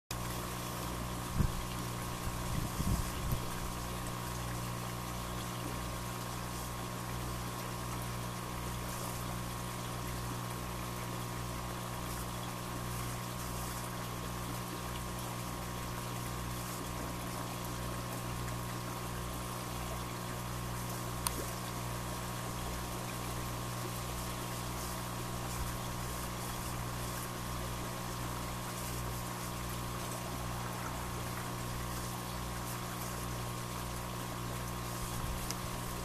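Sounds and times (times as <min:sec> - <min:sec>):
mechanical hum with pulsing: 0:00.1 - 0:36.0.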